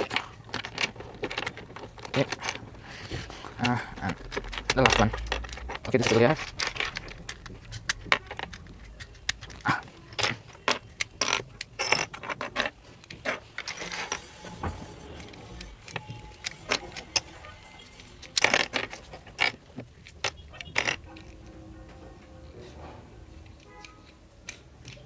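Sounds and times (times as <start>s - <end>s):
plastic puzzle cube clicking: 0.0s - 14.3s, 15.2s - 21.4s, 23.4s - 25.0s.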